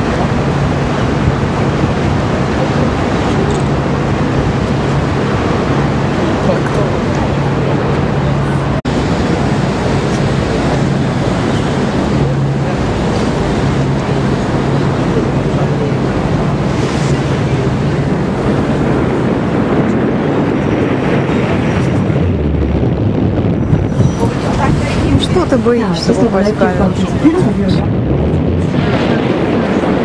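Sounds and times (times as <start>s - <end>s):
boat engine drone: 0.0s - 30.0s
rushing water: 0.0s - 30.0s
wind buffeting microphone: 0.0s - 30.0s.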